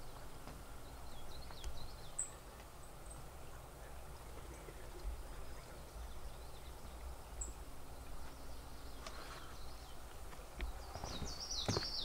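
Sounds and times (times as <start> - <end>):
low steady rumble: 0.0 - 11.6
faint bird chirps: 0.0 - 12.0.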